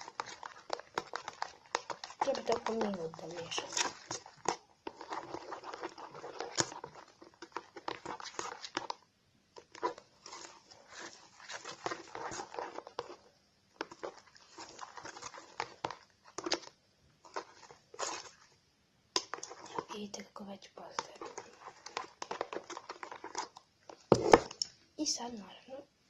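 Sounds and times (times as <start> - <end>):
sticky wet slime squelching: 0.0 - 18.6, 19.2 - 20.1, 20.8 - 24.8.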